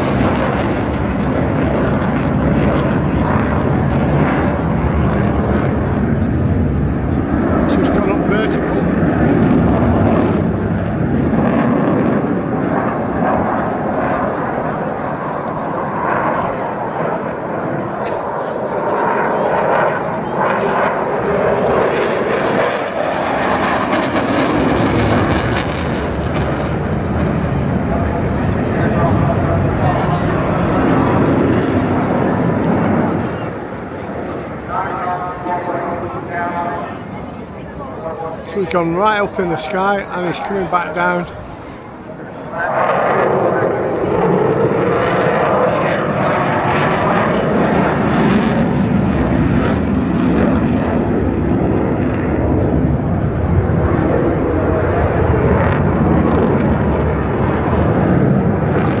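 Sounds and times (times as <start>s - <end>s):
jet roar: 0.0s - 59.0s.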